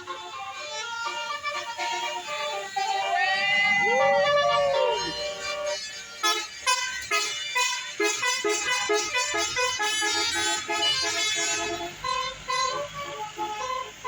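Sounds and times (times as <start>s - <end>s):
multi-tone bus horn tune: 0.0s - 14.0s.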